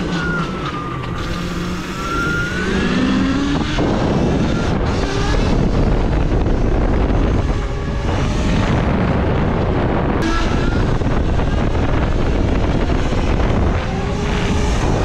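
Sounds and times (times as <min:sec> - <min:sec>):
electric motor whine: 0:00.0 - 0:15.0
wind rushing over microphone: 0:00.0 - 0:15.0.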